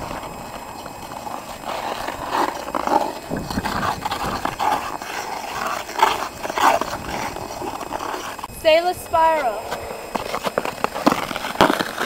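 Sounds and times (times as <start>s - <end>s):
ice skates scraping ice: 0.0s - 12.0s.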